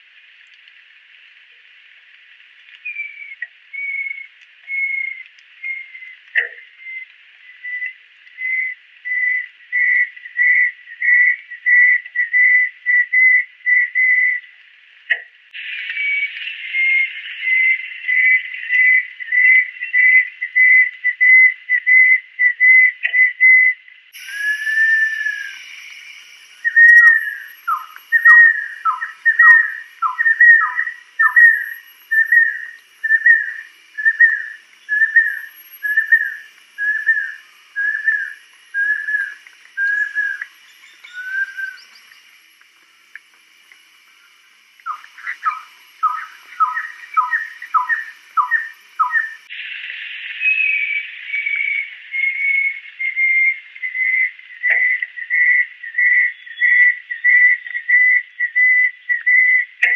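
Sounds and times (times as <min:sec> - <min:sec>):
bird whistling repeated notes: 0:02.8 - 0:14.5, 0:15.6 - 0:43.3, 0:44.1 - 0:59.8.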